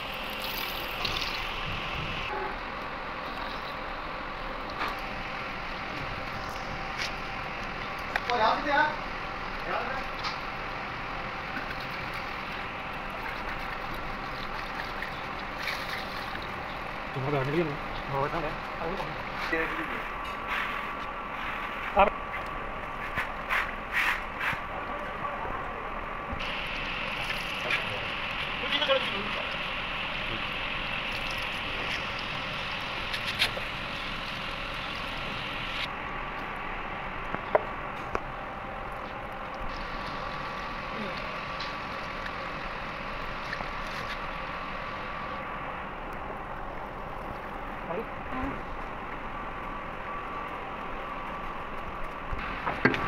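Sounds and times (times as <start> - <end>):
rushing machinery noise: 0.0 - 53.0.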